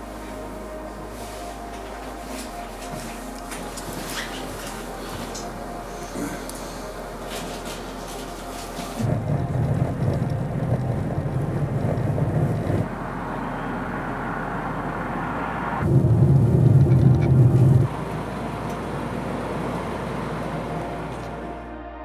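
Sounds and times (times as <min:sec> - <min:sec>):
car road noise rumble: 0:00.0 - 0:21.6.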